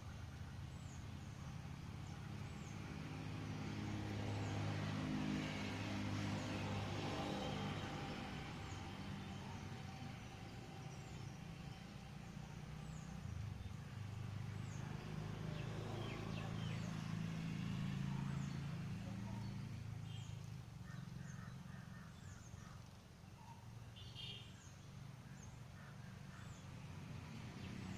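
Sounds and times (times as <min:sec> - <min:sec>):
low rumble of road traffic: 0:00.0 - 0:27.9
small birds chirping: 0:00.0 - 0:27.9.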